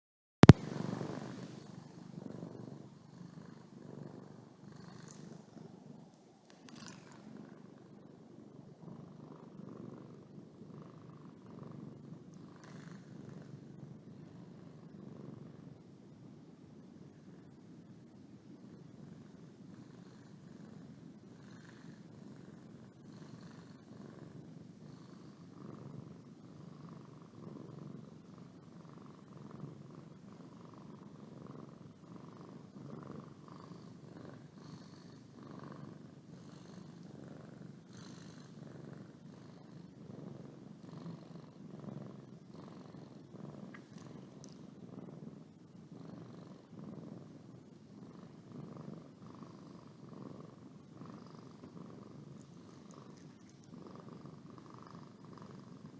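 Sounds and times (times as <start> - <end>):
cat purring: 0.4 - 55.9.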